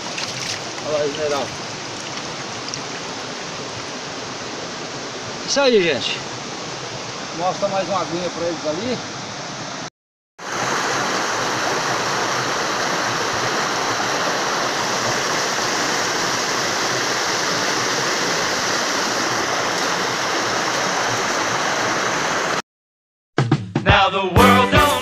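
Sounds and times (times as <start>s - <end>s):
stream water rushing: 0.0s - 22.6s.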